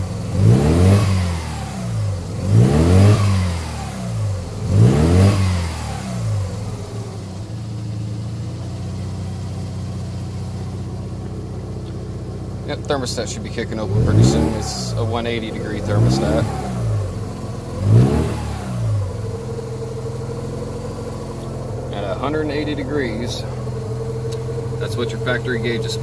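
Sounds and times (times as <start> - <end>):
rotary engine revving and idling: 0.0 - 26.0.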